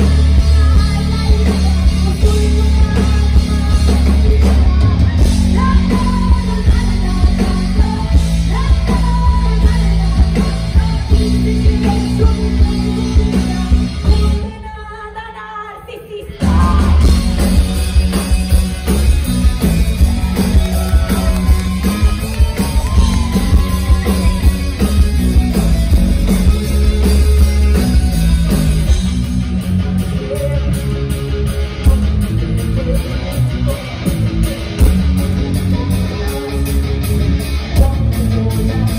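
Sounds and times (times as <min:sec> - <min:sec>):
distorted electric guitar: 0:00.0 - 0:14.4, 0:16.3 - 0:38.9
bass guitar: 0:00.0 - 0:14.8, 0:16.2 - 0:38.9
person singing: 0:00.0 - 0:17.4, 0:20.0 - 0:25.6, 0:29.9 - 0:38.9
drums: 0:00.0 - 0:38.9.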